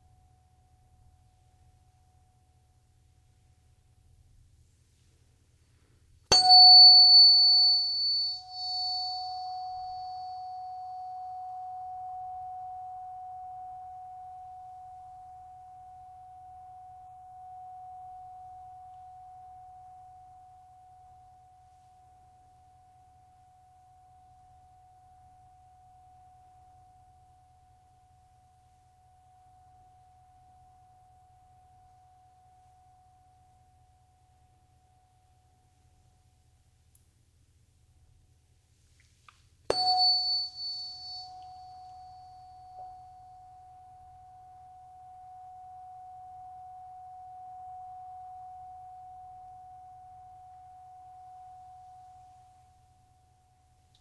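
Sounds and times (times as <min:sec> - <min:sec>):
tuning fork ringing: 0:06.3 - 0:36.2, 0:39.7 - 0:53.8.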